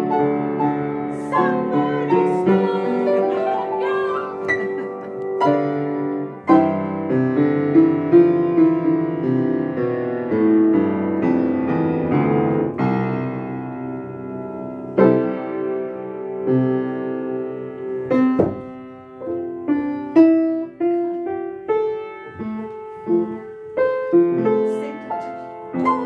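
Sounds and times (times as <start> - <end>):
piano playing slow chords: 0.0 - 26.0.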